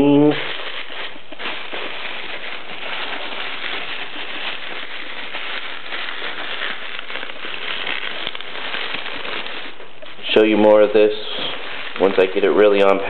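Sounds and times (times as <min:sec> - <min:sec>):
bubble wrap crackling: 0:00.0 - 0:13.0.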